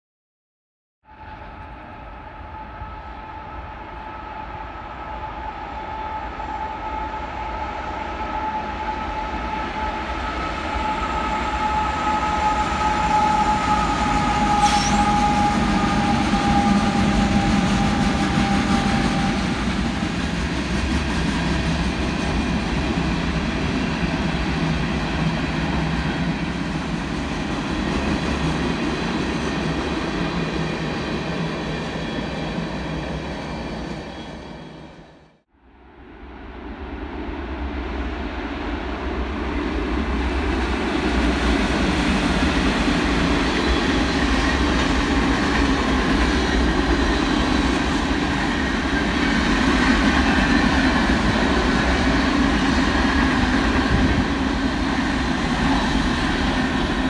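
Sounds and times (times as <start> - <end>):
train passing rumble: 1.1 - 57.0.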